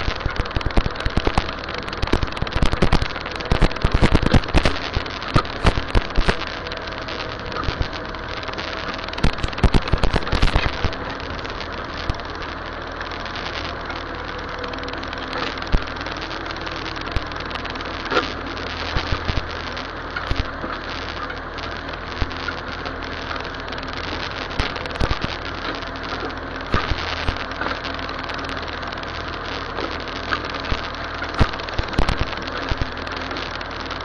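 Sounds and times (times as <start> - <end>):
sharp clicks and knocks: 0.0 - 34.0
tractor engine running: 0.0 - 34.0.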